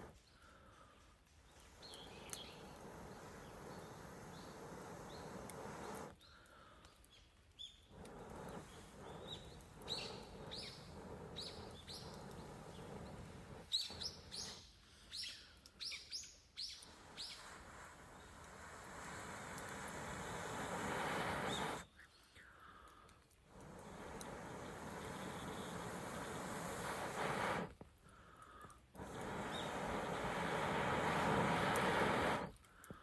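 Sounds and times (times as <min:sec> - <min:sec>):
campfire hissing: 0:00.0 - 0:33.0
fire popping: 0:00.0 - 0:33.0
small birds chirping: 0:00.0 - 0:33.0.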